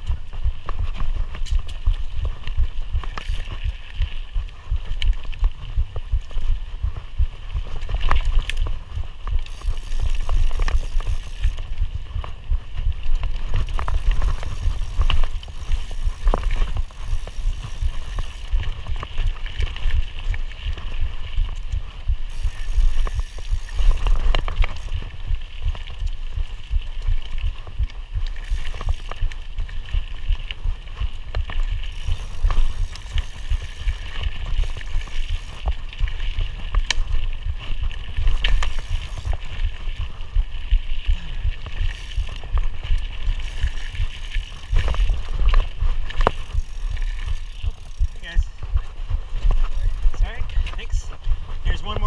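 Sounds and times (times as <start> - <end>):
bike frame rattling and clicking: 0.0 - 52.0
constant low rumble: 0.0 - 52.0.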